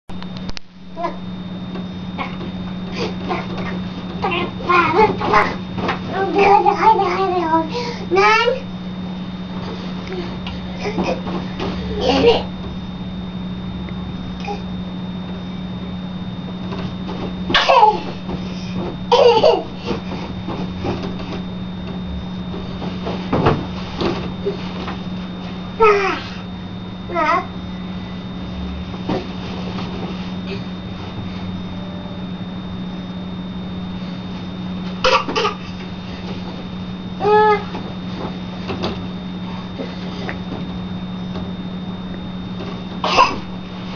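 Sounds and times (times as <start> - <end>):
steady low hum: 0.1 - 43.9.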